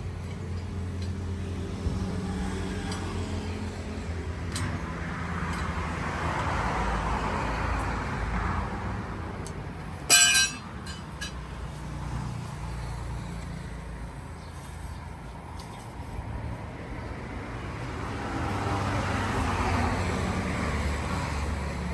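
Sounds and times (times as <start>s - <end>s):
road traffic passing: 0.0s - 21.9s.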